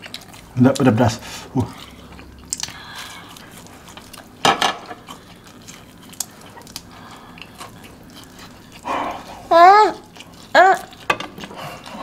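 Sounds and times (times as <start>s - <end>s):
person biting and chewing: 0.0s - 0.9s, 1.5s - 12.0s.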